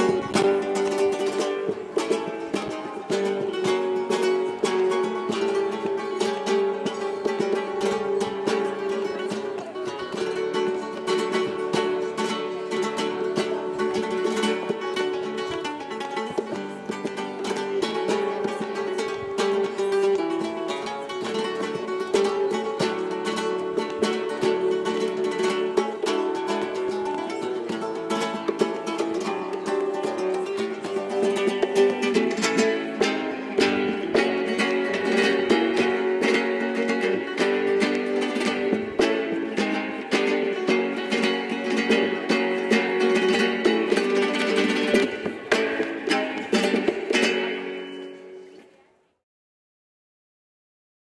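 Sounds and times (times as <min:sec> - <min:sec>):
strummed string instrument: 0:00.0 - 0:48.9.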